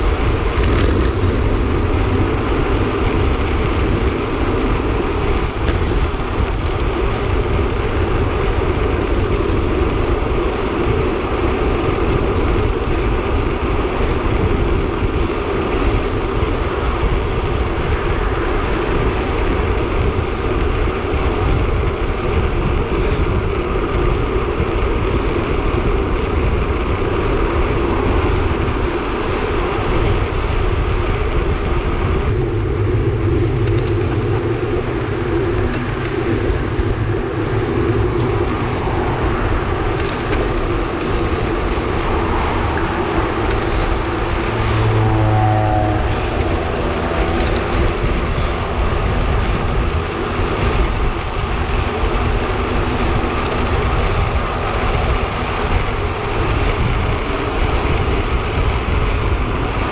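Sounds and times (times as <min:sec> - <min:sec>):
road and tyre noise: 0:00.0 - 0:59.9
wind rushing over microphone: 0:00.0 - 0:59.9.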